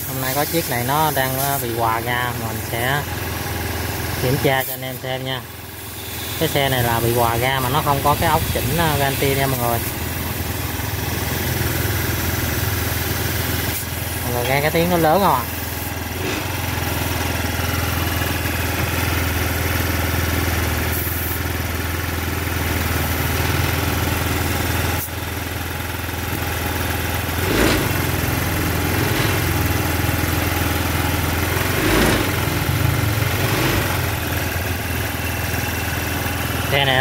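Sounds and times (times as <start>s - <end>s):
engine idling high: 0.0s - 37.0s.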